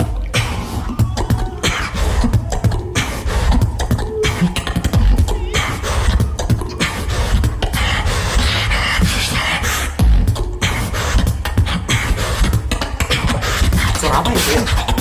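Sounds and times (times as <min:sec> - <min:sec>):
beatboxing: 0:00.0 - 0:15.0.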